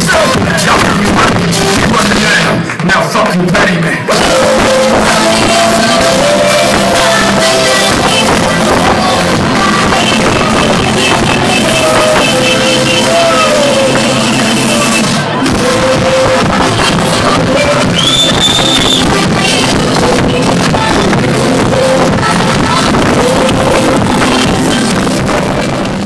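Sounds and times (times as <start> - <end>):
pop dance backing track: 0.0 - 26.0
person singing into microphone: 3.6 - 26.0.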